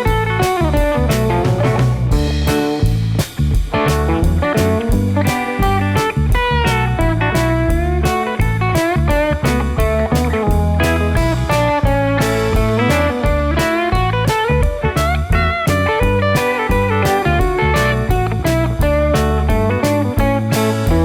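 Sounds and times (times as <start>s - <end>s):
blues guitar music with drums: 0.0s - 21.0s.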